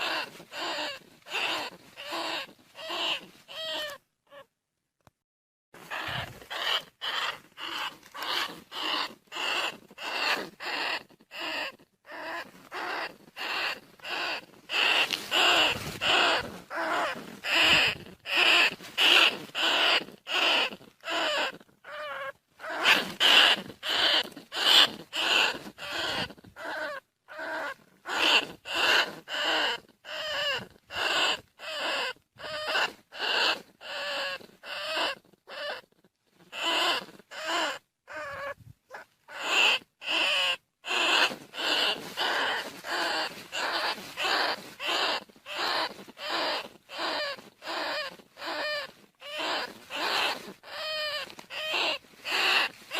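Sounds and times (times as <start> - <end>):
rat squeaking: 0.0 - 4.5, 5.8 - 52.9.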